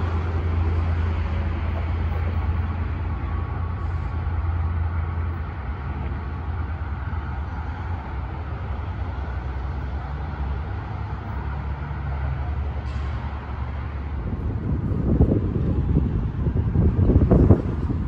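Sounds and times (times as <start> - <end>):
diesel train rumble: 0.0 - 18.0.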